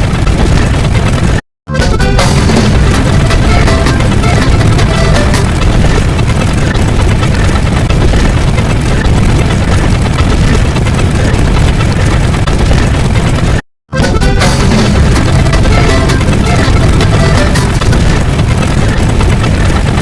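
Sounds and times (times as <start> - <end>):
loud dense rumbling: 0.0 - 20.0.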